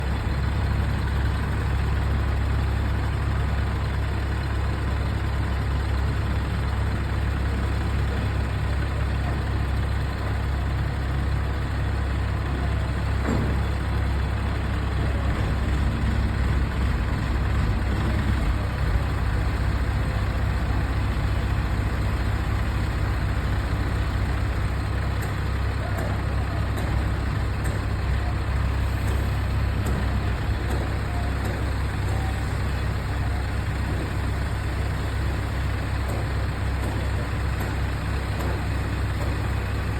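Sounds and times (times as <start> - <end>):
heavy vehicle engine rumbling: 0.0 - 39.9.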